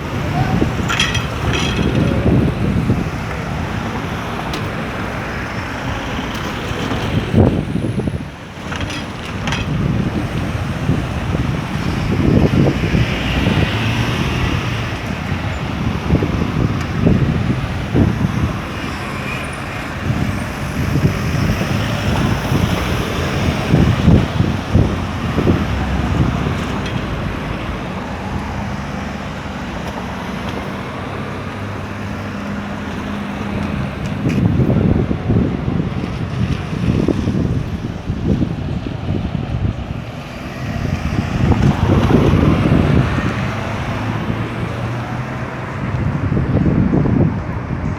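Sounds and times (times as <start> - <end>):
street traffic rumble: 0.0 - 47.9
vehicle engine humming: 0.0 - 47.9
wind buffeting microphone: 0.0 - 47.9.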